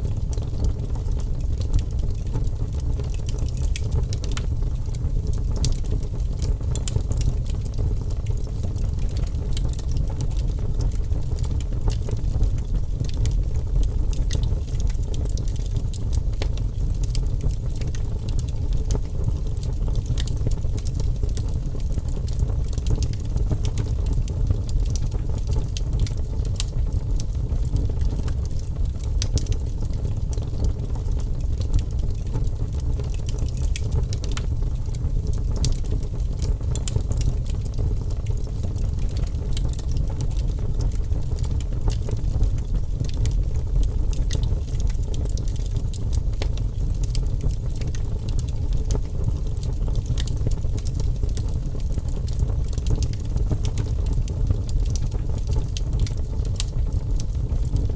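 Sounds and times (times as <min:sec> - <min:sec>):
fire rumbling: 0:00.0 - 0:57.9
logs crackling and popping: 0:00.0 - 0:57.9.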